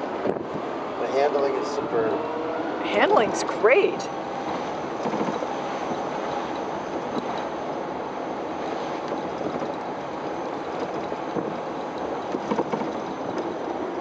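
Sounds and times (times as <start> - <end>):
tyre and wind noise: 0.0 - 2.2, 4.1 - 14.0.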